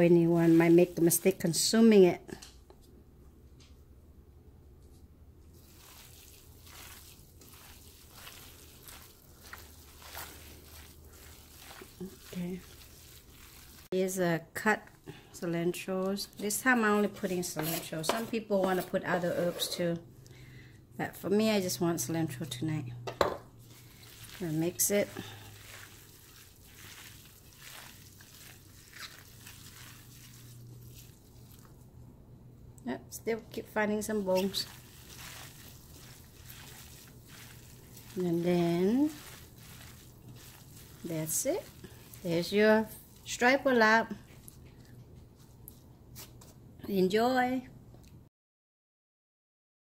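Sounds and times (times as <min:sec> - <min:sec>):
soft squishing and rustling: 0:00.0 - 0:03.8, 0:04.8 - 0:20.3, 0:23.5 - 0:32.1, 0:32.8 - 0:47.0.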